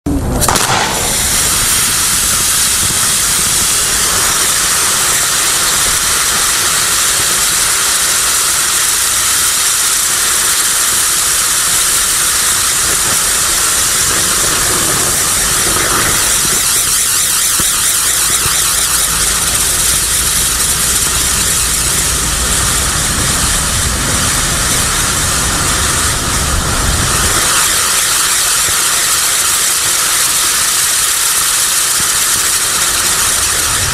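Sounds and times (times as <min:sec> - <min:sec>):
firework wheel hissing: 0:00.1 - 0:33.9.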